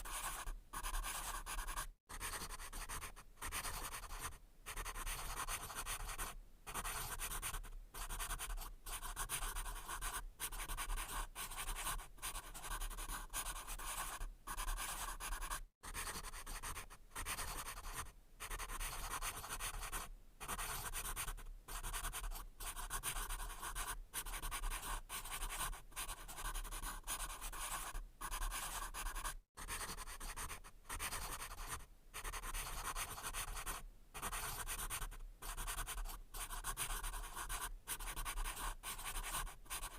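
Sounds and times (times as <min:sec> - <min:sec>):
pencil writing on paper: 0:00.0 - 0:39.9.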